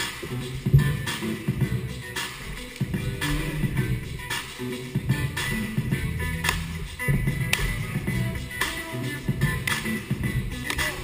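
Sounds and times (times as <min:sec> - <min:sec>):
dj battle music: 0:00.0 - 0:11.0.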